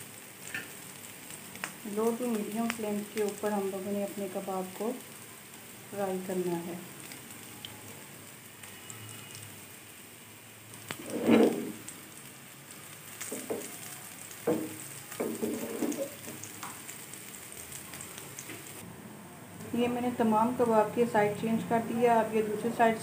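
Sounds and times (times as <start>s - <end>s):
food frying in hot oil: 0.0s - 18.8s, 19.5s - 23.0s.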